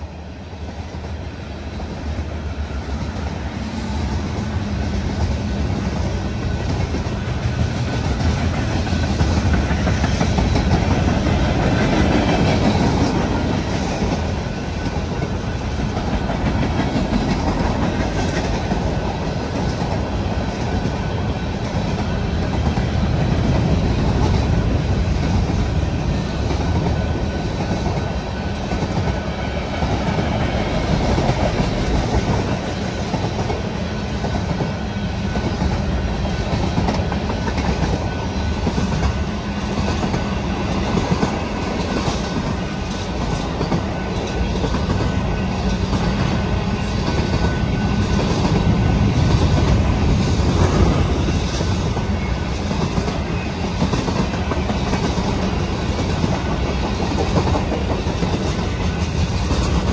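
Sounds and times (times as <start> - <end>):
freight train rumbling: 0.0 - 59.9.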